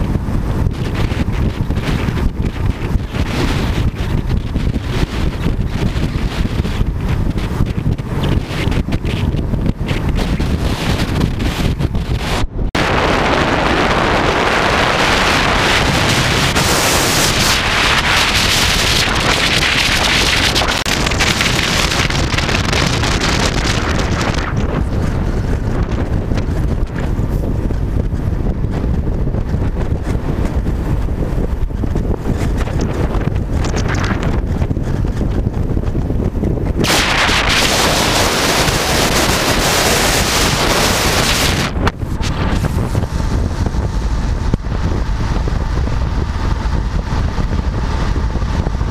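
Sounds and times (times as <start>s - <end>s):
road rumble: 0.0s - 48.9s
wind buffeting microphone: 0.0s - 48.9s.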